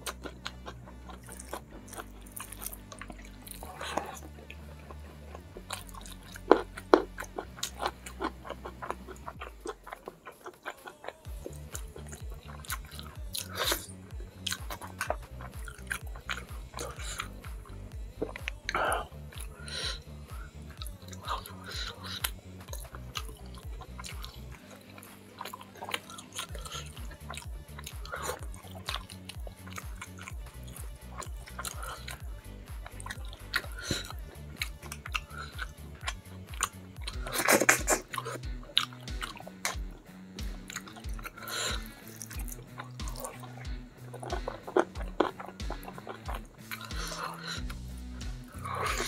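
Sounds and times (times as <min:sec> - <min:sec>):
background music with low beat: 0:00.0 - 0:49.0
wet chewing and lip-smacking: 0:00.0 - 0:49.0.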